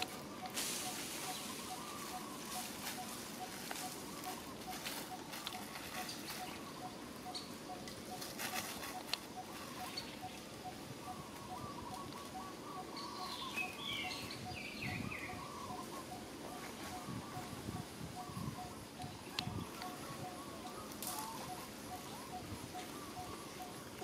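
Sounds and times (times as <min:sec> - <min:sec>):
birds chirping: 0:00.0 - 0:24.0
rustling of dry leaves: 0:00.0 - 0:24.0.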